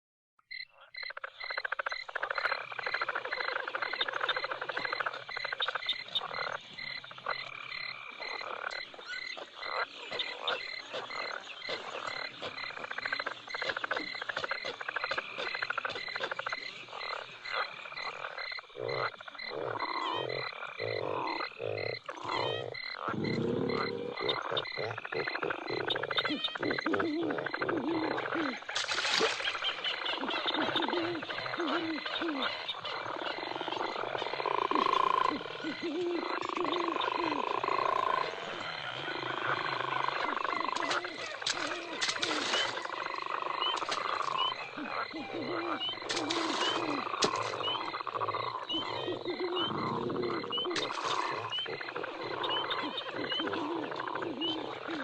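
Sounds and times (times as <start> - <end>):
frogs croaking: 0.4 - 55.0
deep loud frog croaks: 0.5 - 55.0.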